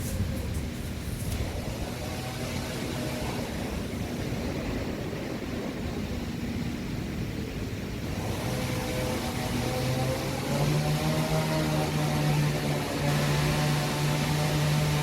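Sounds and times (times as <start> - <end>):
motor drone with low hum: 0.0 - 15.0.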